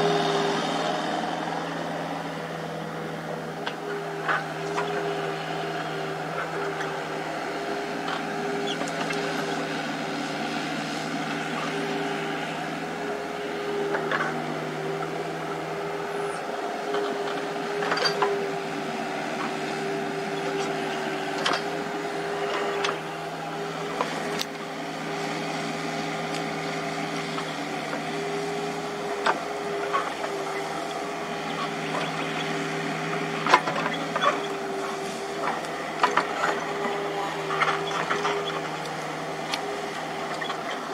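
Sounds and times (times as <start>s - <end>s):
excavator engine running: 0.0s - 40.9s.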